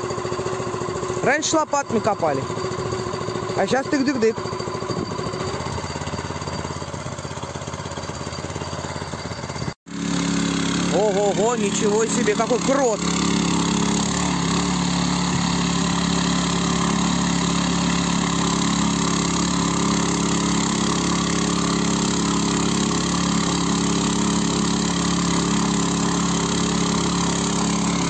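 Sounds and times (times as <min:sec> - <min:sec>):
cultivator engine running: 0:00.0 - 0:28.0.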